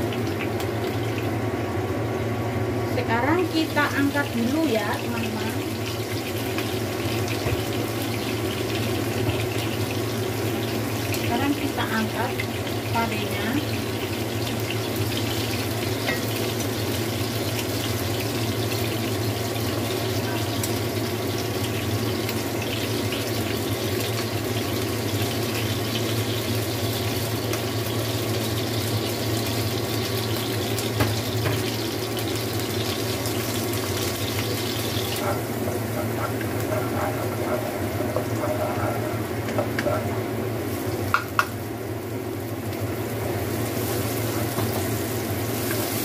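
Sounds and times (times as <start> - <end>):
food sizzling in oil: 0.0 - 46.0.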